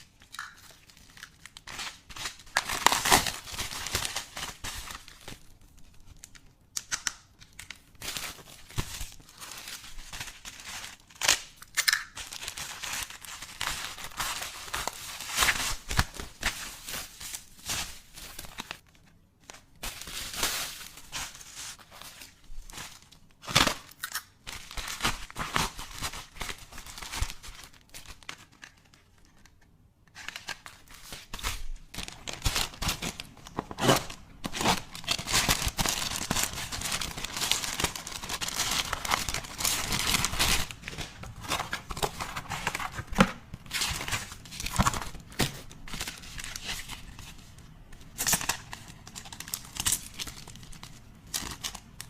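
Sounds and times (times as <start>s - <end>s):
packaging crinkling and tearing: 0.0s - 29.4s, 30.1s - 52.0s.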